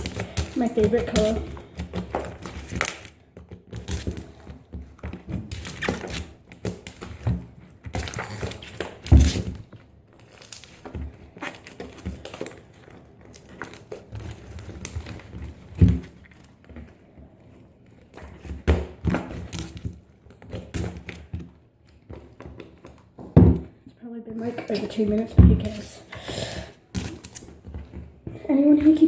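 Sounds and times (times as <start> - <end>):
slime handling noises: 0.0 - 29.0.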